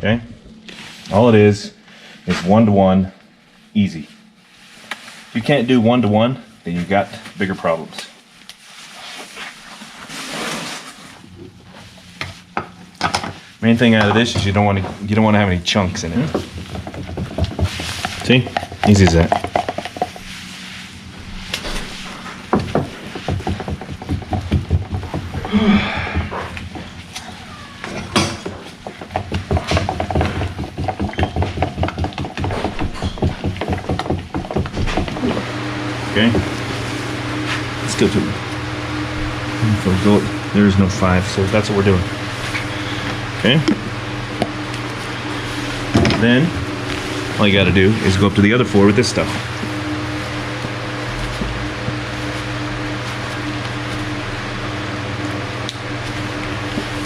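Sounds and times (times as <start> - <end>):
fan humming: 0.0 - 57.0.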